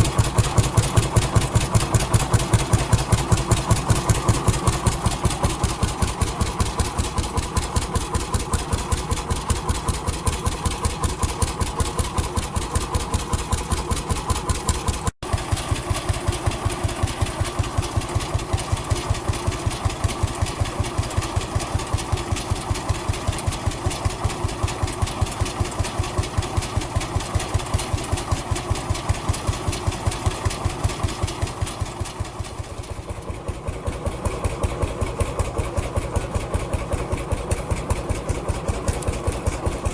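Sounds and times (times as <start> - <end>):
vintage engine running: 0.0 - 39.9.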